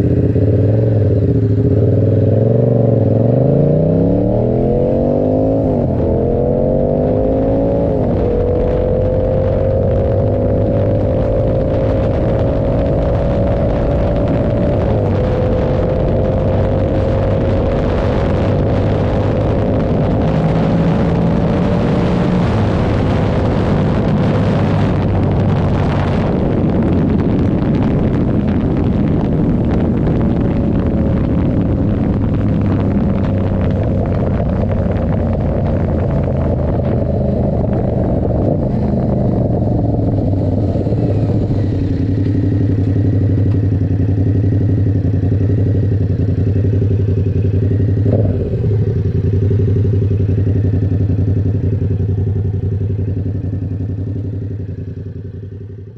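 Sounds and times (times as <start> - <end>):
motorcycle engine running: 0.0 - 55.9
wind and road noise: 0.0 - 55.9.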